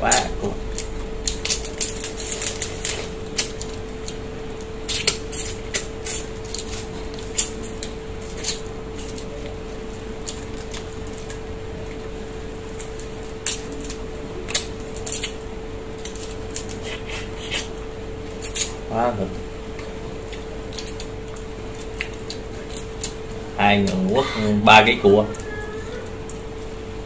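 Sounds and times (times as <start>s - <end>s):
crab shells cracking: 0.0s - 24.2s
steady low hum: 0.0s - 27.0s.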